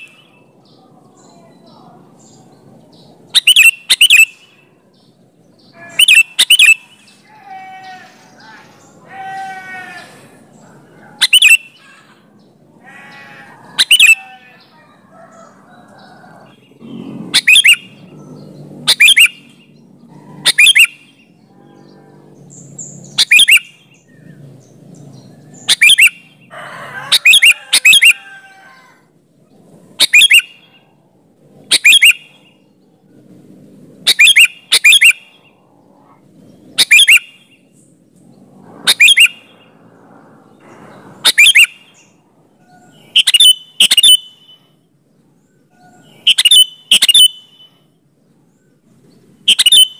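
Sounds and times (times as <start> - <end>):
bulbul calling: 0.0 - 28.6, 30.0 - 30.8, 31.6 - 32.7, 34.0 - 37.8, 38.9 - 39.7, 40.6 - 44.8, 45.6 - 47.9, 49.4 - 49.9.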